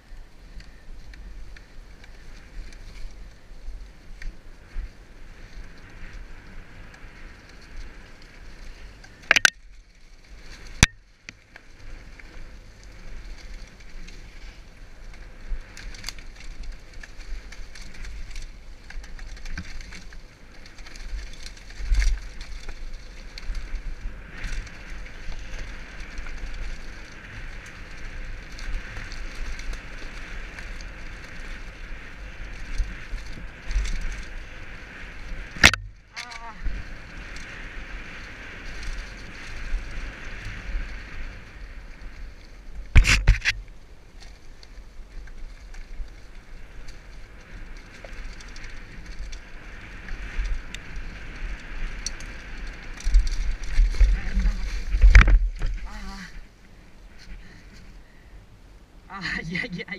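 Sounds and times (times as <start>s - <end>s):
bike rattling and clicking: 0.0s - 58.4s
bike tyres on dirt trail: 0.0s - 59.9s
wind rumbling on microphone: 0.0s - 59.9s.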